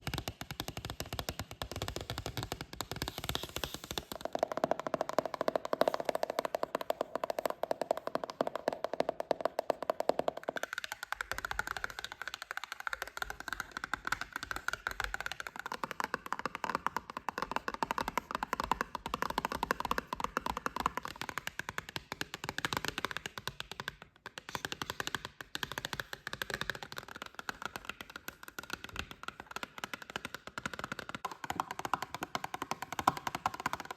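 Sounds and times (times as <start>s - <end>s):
fingertips tapping on cardboard: 0.0s - 33.9s.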